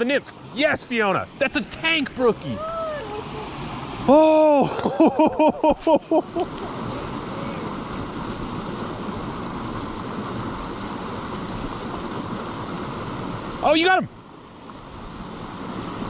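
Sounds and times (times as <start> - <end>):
creek rushing over rocks: 0.0 - 16.0.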